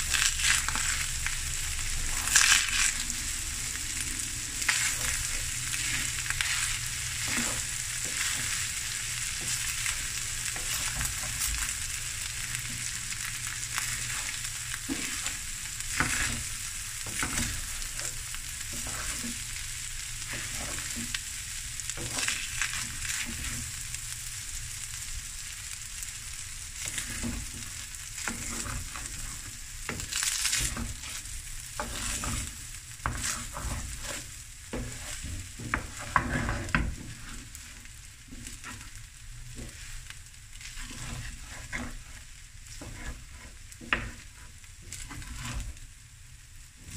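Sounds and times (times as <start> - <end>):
spatula scraping a pan: 0.0 - 24.4, 26.6 - 45.8
food sizzling in a hot pan: 0.0 - 46.9.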